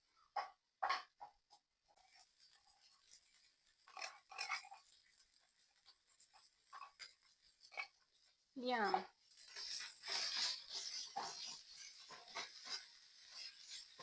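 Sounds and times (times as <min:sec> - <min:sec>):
meat sizzling in oil: 0:01.8 - 0:14.0
scraping and crackling: 0:01.9 - 0:14.0.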